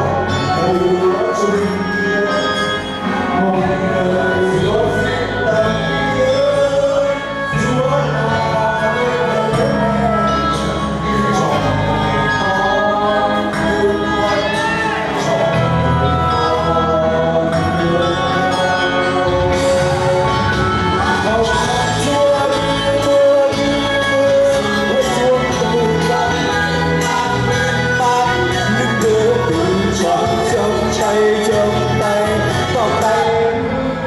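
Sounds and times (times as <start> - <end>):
group singing into microphone: 0.0 - 34.0
music backing track with bass: 0.0 - 34.0.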